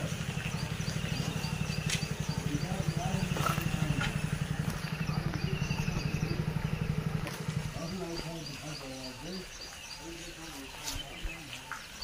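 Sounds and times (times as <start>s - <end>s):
birds chirping: 0.0s - 12.0s
engine idling: 0.0s - 12.0s
faint voices: 0.0s - 12.0s.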